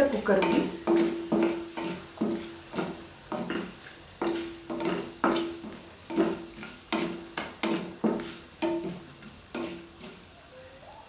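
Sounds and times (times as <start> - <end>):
wooden spatula scraping a pan: 0.0 - 10.3
faint sizzle: 0.0 - 11.0.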